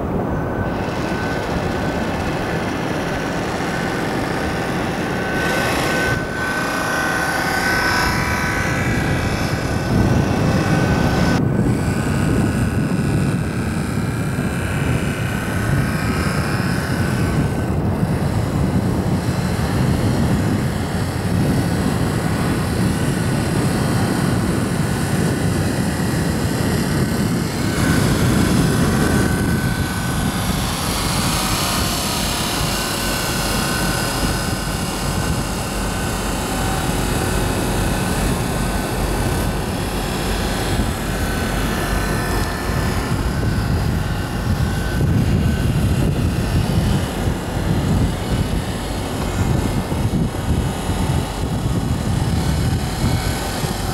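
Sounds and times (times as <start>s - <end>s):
faint high whine: 0.0s - 53.9s
wind buffeting microphone: 0.0s - 53.9s.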